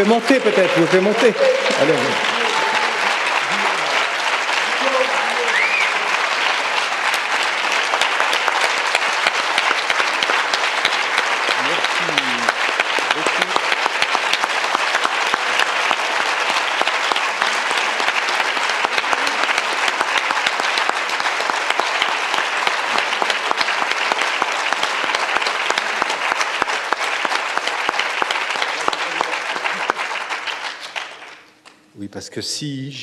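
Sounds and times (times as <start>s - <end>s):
audience applauding: 0.0s - 31.7s.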